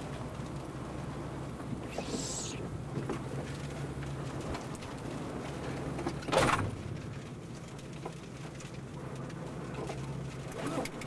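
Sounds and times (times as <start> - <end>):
engine idling hum: 0.0 - 11.0
rain tapping on a vehicle: 0.0 - 11.0.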